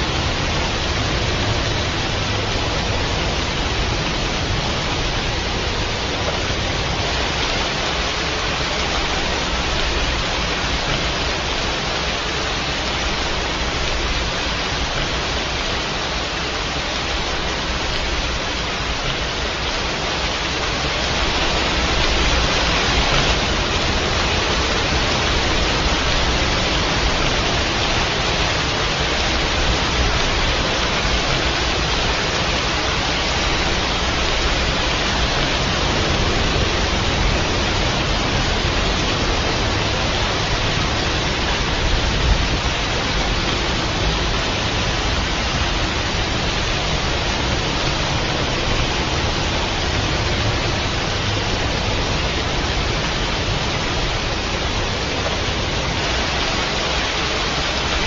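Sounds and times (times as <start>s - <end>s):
dense rainfall hiss: 0.0s - 58.0s.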